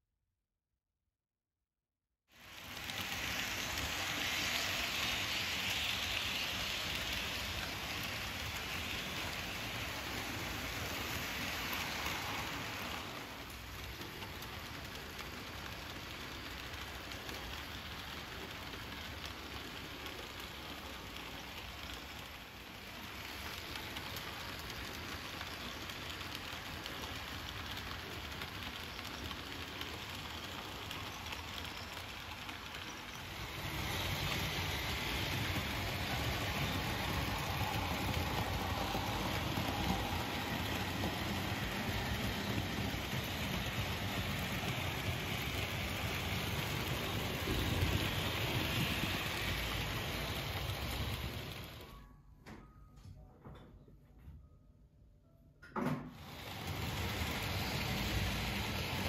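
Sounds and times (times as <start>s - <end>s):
model train wheels on track: 2.3s - 52.1s, 56.1s - 59.0s
model train steam hiss: 2.4s - 51.9s, 56.2s - 59.0s.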